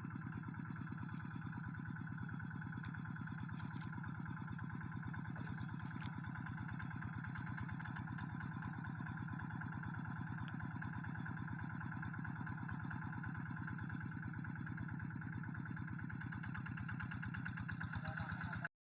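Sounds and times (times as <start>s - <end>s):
hand tractor engine idling: 0.0s - 18.7s.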